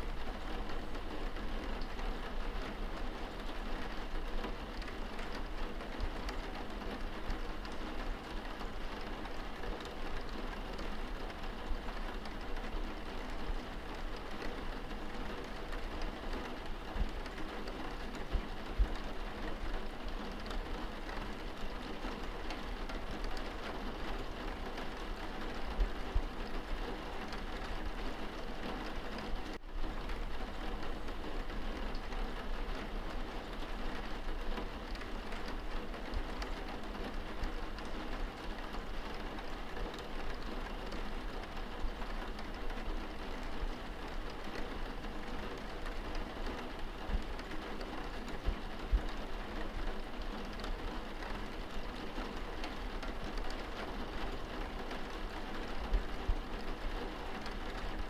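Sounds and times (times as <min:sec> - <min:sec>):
rain on window glass: 0:00.0 - 0:58.0.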